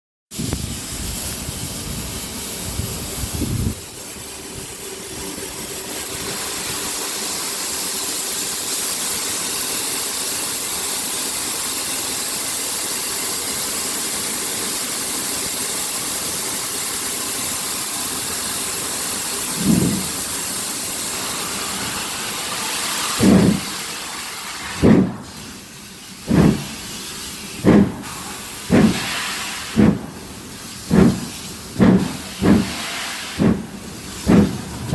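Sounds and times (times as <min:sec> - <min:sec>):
steam hissing: 0:00.3 - 0:34.9
steam locomotive exhaust beats: 0:00.3 - 0:34.9.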